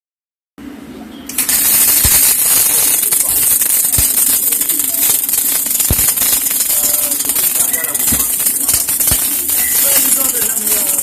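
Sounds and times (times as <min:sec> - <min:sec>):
welding arc crackling and sizzling: 0:01.3 - 0:11.0.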